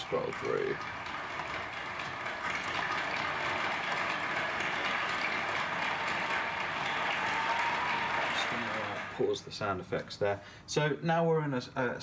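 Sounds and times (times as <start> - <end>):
crowd clapping: 0.0 - 9.8.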